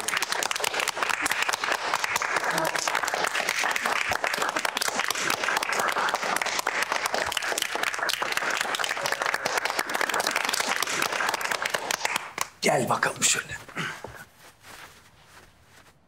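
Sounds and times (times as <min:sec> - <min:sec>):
people applauding: 0:00.0 - 0:13.5.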